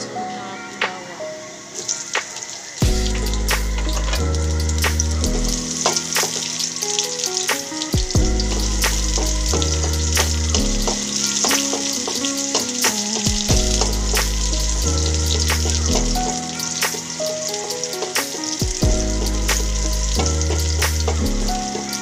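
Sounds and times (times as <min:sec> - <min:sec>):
background music low chords: 0:00.0 - 0:22.0
garlic and onion sizzling in oil: 0:01.4 - 0:22.0.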